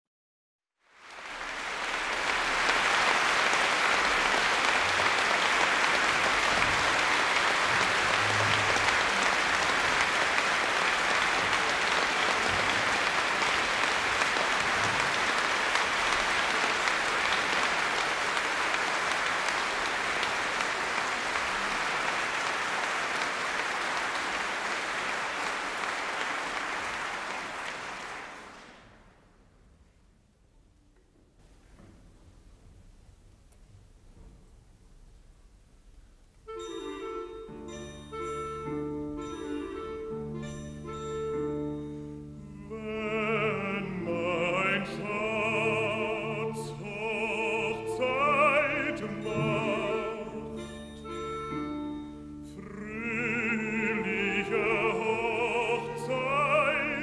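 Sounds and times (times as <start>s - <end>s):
audience applauding: 0.8s - 29.2s, 36.5s - 52.0s, 52.6s - 57.0s.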